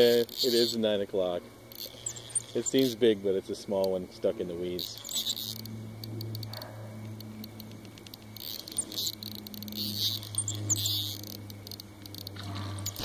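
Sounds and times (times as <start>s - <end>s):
fishing reel clicking: 0.0s - 1.0s, 1.7s - 3.1s, 3.7s - 4.0s, 4.6s - 13.0s
steady low hum: 0.0s - 13.0s.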